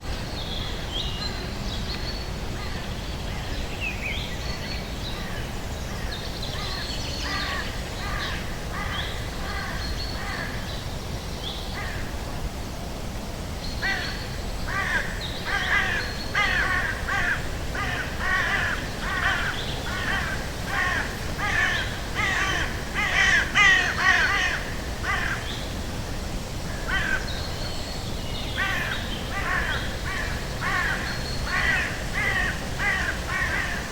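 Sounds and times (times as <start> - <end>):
low forest background: 0.0 - 33.9
birds calling: 2.6 - 12.1, 13.7 - 25.9, 26.6 - 33.9.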